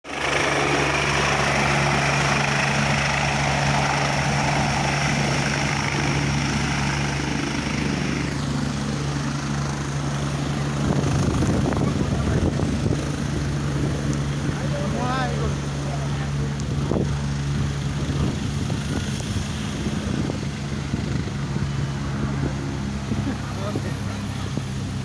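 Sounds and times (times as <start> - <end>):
helicopter rotors rushing hiss: 0.1 - 25.0.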